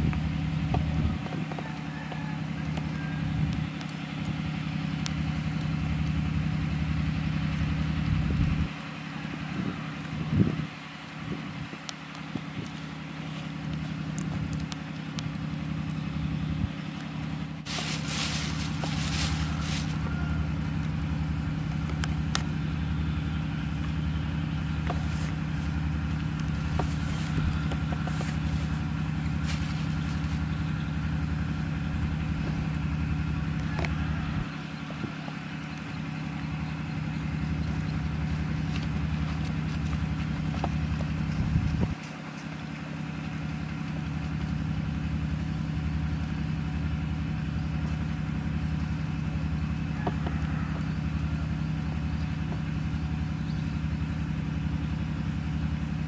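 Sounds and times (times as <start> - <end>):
engine humming steadily: 0.0 - 56.0.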